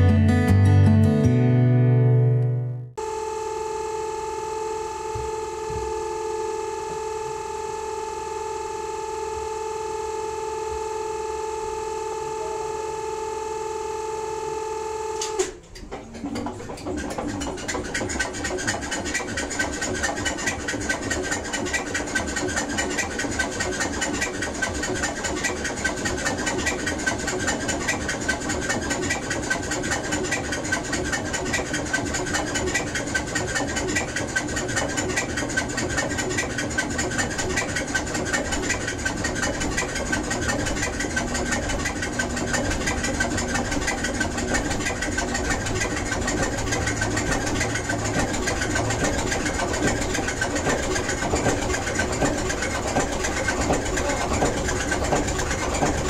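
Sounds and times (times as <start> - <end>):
diesel engine running: 3.0 - 15.5, 16.9 - 56.0
steady starter whine: 3.0 - 56.0.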